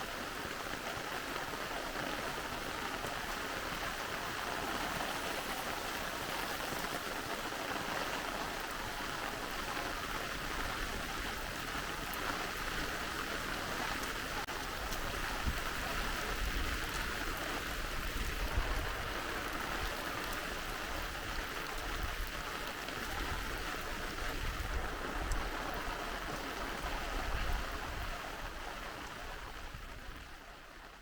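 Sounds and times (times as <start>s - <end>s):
rain falling: 0.0s - 31.0s
rushing stream: 0.0s - 31.0s.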